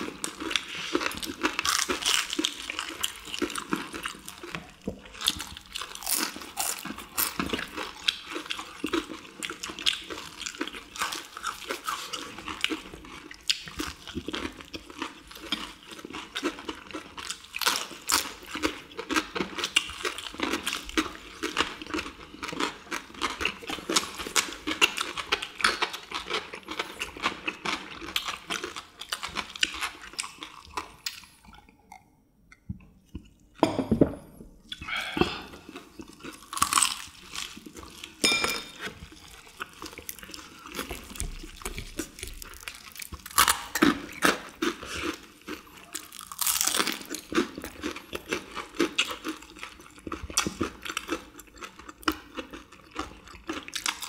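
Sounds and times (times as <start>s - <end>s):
crunchy chewing: 0.0s - 32.0s, 34.7s - 54.0s.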